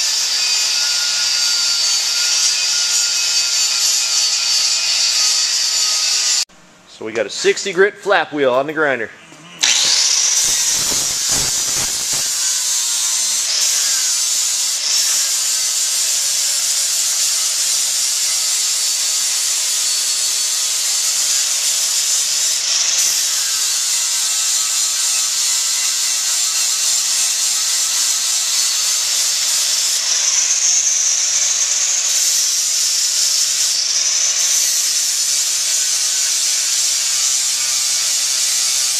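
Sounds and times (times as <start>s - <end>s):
angle grinder sanding metal: 0.0s - 6.4s, 9.6s - 38.9s.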